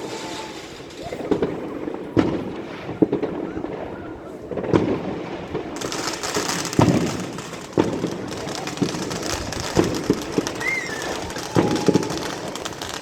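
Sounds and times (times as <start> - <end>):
fireworks bangs: 0.0 - 13.0
fireworks crackle and hiss: 0.0 - 13.0.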